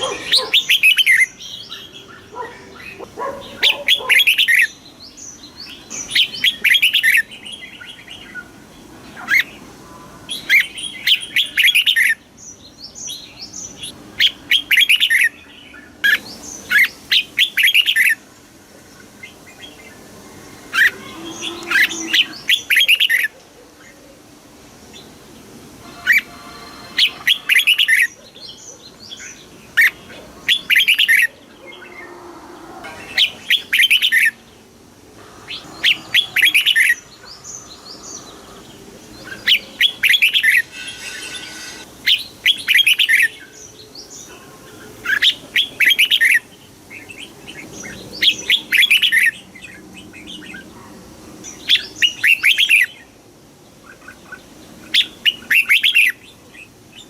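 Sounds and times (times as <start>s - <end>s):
soft bird chatter: 0.0s - 57.0s.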